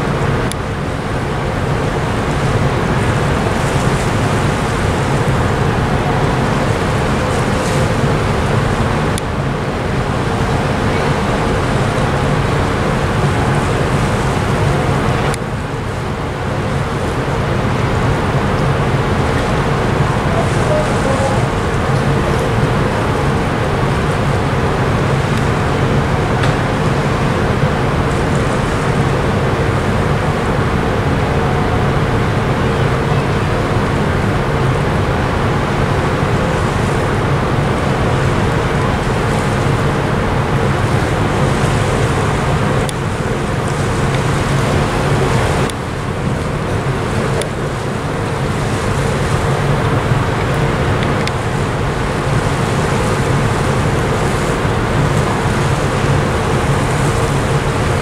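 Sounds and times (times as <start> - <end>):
ship engines droning: 0.0 - 58.0
wind and water rushing: 0.0 - 58.0.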